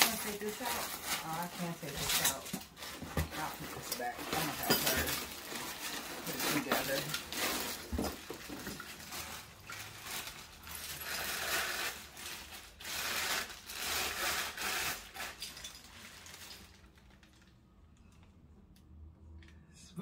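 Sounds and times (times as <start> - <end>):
plastic wrapping crinkling: 0.0 - 17.6.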